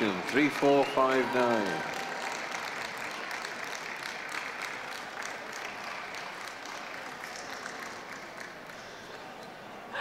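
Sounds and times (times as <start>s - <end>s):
audience applause: 0.0s - 9.2s.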